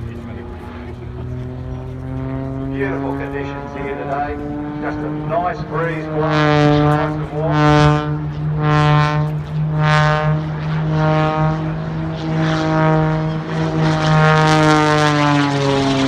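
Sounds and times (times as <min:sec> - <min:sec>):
biplane engine and propeller: 0:00.0 - 0:16.0.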